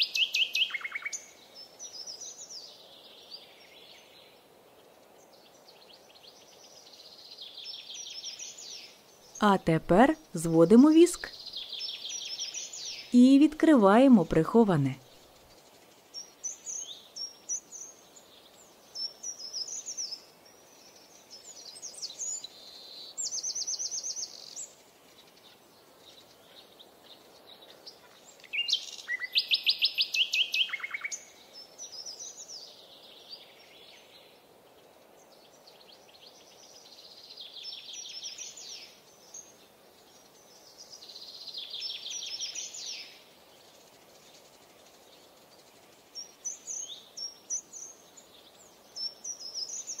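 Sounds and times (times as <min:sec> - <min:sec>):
songbirds chirping and trilling: 0:00.0 - 0:50.0.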